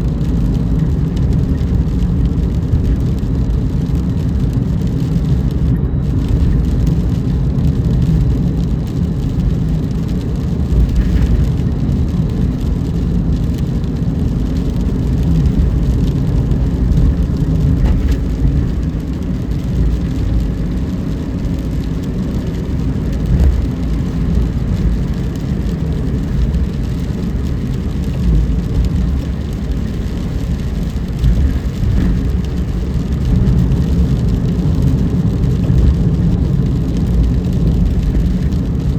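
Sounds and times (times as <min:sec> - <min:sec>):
car driving rumble: 0:00.0 - 0:38.9.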